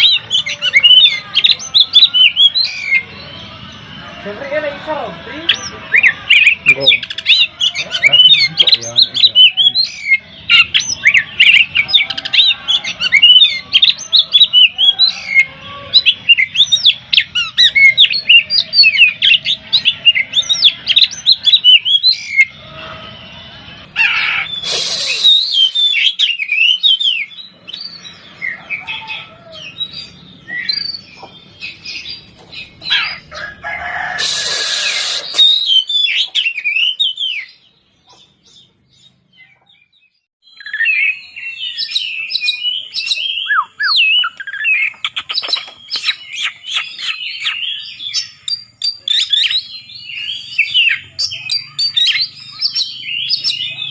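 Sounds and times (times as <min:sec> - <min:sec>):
magpie-robin singing: 0:00.0 - 0:04.5, 0:05.3 - 0:22.6, 0:23.8 - 0:33.4, 0:34.4 - 0:53.9
harsh rasping bird calls: 0:00.0 - 0:39.7, 0:40.5 - 0:53.9.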